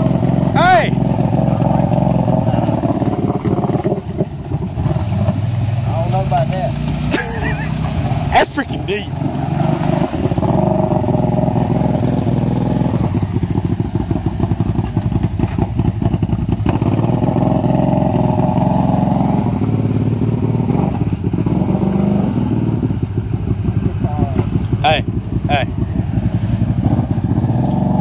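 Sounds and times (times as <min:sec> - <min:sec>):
quad engine running under load: 0:00.0 - 0:28.0
wheels churning water: 0:00.0 - 0:28.0.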